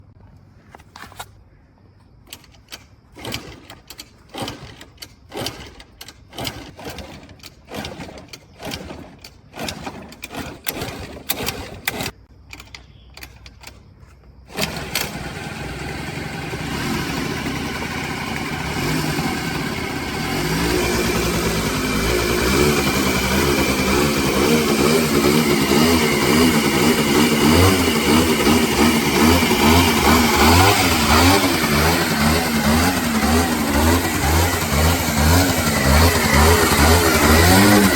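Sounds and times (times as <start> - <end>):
scooter engine cranking: 2.2 - 37.9
scooter engine revving: 3.1 - 12.2, 14.5 - 37.9.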